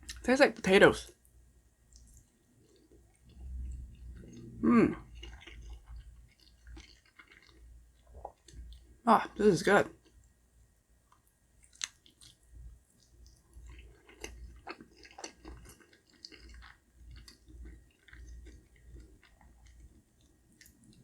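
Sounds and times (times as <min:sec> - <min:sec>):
person chewing food: 0:00.0 - 0:00.2, 0:01.2 - 0:09.0, 0:11.0 - 0:21.0.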